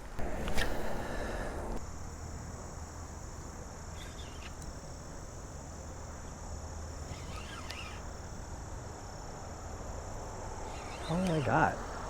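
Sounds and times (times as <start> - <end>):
insects trilling: 0.2 - 12.0.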